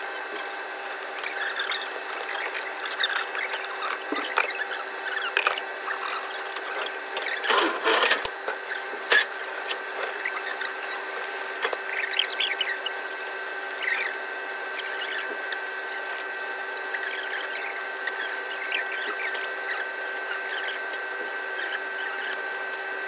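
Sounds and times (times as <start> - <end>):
kitchen equipment hum: 0.0 - 23.0.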